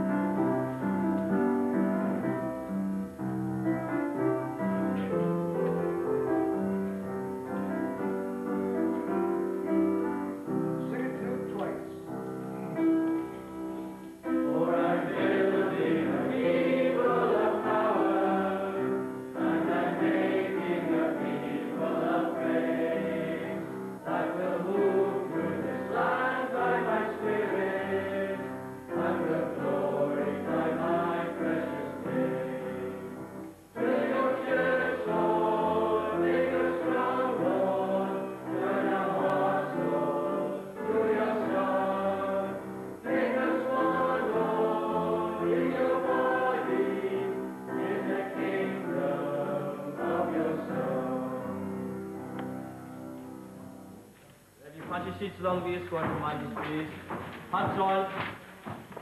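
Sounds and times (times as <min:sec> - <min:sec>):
boys' choir singing a hymn: 0:00.0 - 0:02.8, 0:03.6 - 0:52.7, 0:54.6 - 0:59.0.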